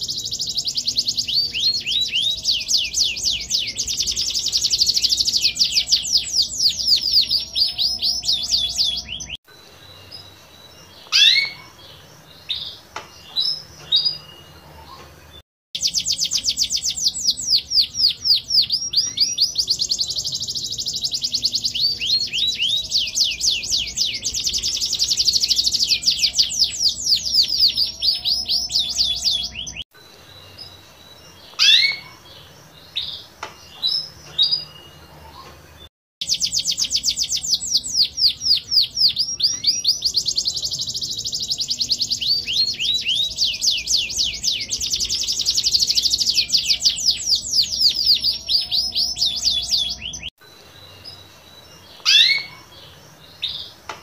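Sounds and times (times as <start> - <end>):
canary trilled song: 0.0 - 54.0.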